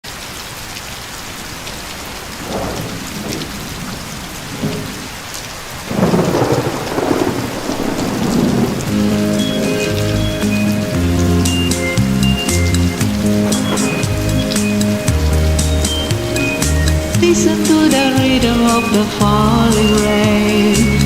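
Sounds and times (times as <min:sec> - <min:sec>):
steady rain: 0:00.0 - 0:21.0
thunder rumbling: 0:00.6 - 0:21.0.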